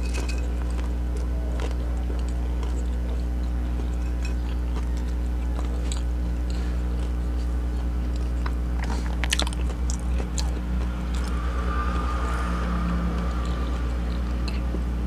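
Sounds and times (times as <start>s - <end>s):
wet chewing: 0.0s - 12.1s, 12.8s - 14.9s
chewing crunchy food: 0.0s - 15.0s
low electrical hum: 0.0s - 15.0s.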